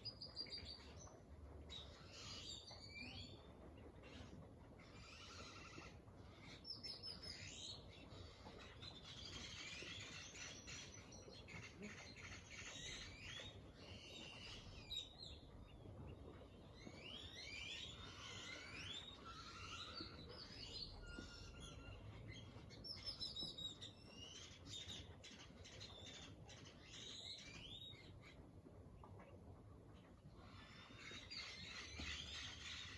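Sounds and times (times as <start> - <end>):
low background hum: 0.0 - 32.9
small birds chirping and trilling: 0.0 - 32.9.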